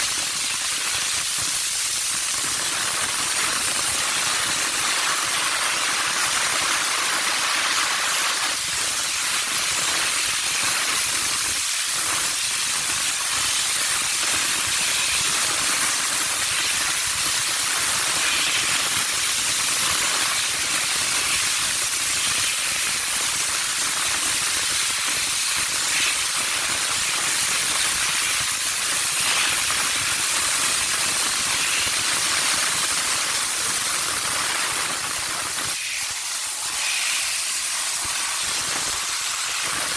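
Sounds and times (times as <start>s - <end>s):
steam wand hissing: 0.0s - 39.9s.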